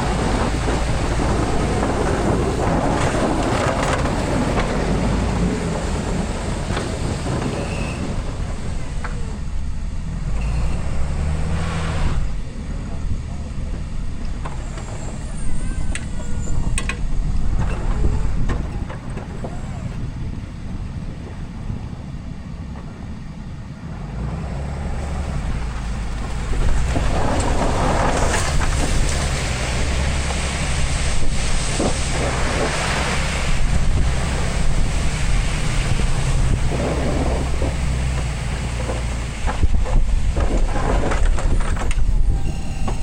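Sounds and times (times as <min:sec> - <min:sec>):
wind on microphone: 0:00.0 - 0:23.4, 0:24.8 - 0:43.0
diesel engine rumbling: 0:00.0 - 0:43.0.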